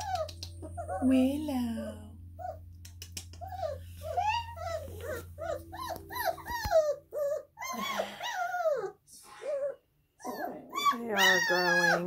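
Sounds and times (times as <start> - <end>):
puppies whimpering and squeaking: 0.0 - 12.0.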